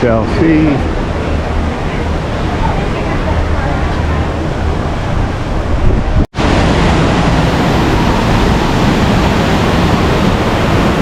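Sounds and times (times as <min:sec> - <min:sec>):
loud steady rushing noise: 0:00.0 - 0:11.0.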